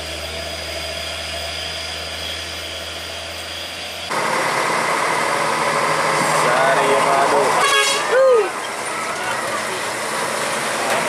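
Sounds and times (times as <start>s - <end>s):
diesel truck engine climbing: 0.0s - 11.0s.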